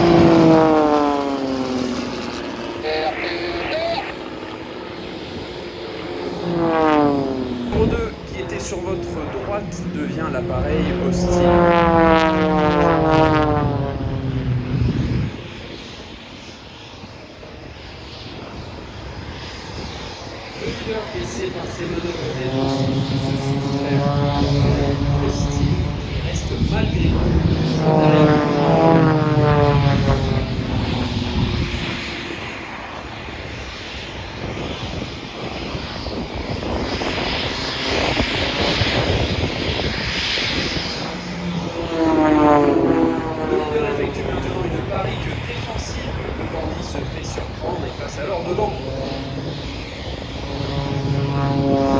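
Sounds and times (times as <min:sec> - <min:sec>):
propeller plane passing: 0:00.0 - 0:51.9.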